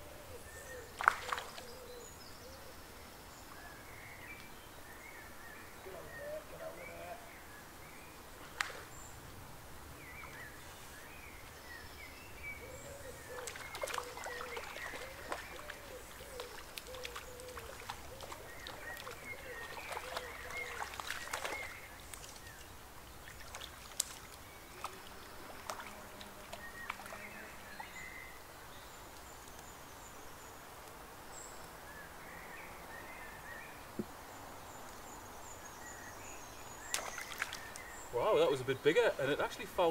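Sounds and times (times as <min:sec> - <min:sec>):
birds singing: 0:00.0 - 0:39.9
flowing water hiss: 0:00.0 - 0:39.9.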